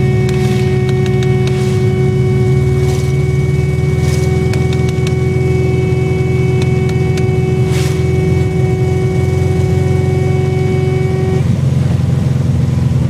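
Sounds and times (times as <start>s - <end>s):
car horn blaring: 0.0s - 11.5s
car engine running: 0.0s - 13.0s.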